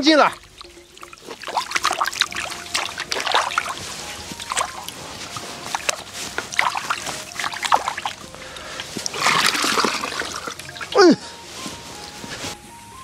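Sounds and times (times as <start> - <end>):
water sloshing in steel basin: 0.0 - 11.1
water dripping: 0.0 - 11.3.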